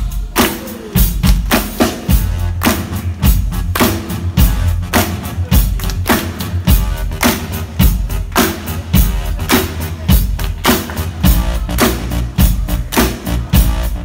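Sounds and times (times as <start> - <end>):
bass guitar: 0.0 - 14.0
drum kit beat: 0.0 - 14.0
hand claps: 0.4 - 8.8, 9.4 - 12.2, 12.8 - 13.5.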